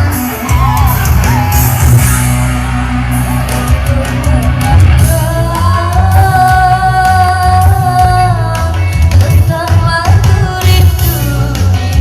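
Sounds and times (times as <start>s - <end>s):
loud rock band playing: 0.0s - 12.0s
person singing: 2.1s - 12.0s.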